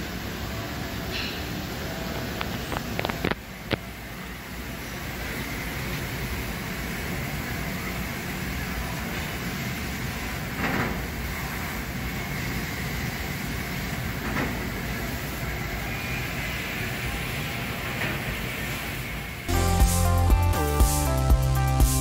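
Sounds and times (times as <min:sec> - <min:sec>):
laser cutting machine running: 0:01.7 - 0:21.7.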